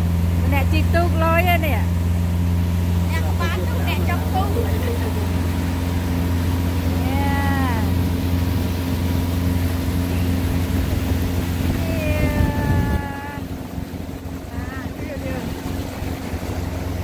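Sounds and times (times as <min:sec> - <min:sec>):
motorboat engine running: 0:00.0 - 0:17.0.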